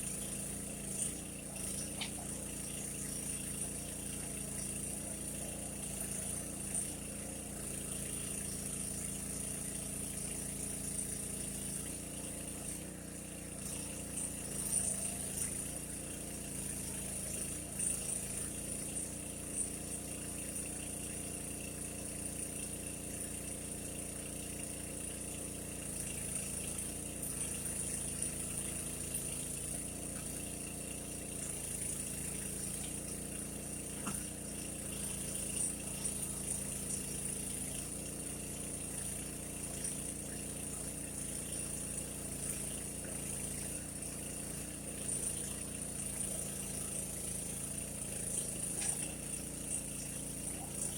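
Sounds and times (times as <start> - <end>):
small engine running steadily: 0.0 - 50.9.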